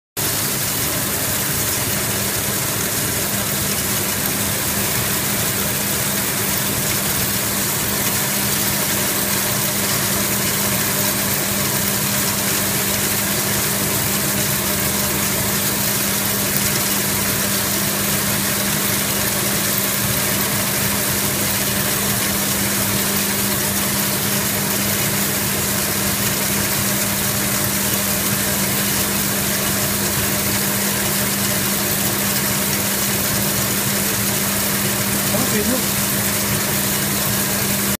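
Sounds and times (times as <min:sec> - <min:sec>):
machine drive hum: 0:00.2 - 0:37.9.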